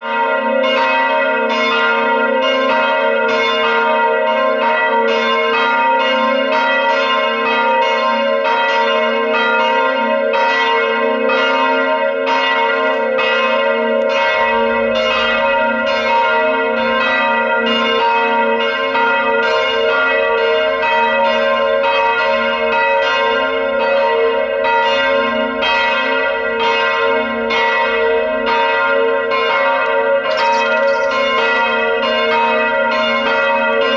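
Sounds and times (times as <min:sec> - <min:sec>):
church bells pealing: 0:00.0 - 0:33.9.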